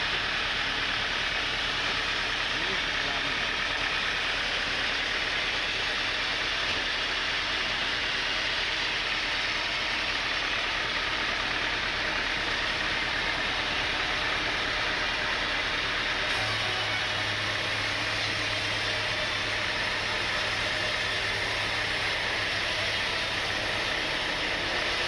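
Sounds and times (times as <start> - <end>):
sawmill saw and machinery running: 0.0 - 25.0.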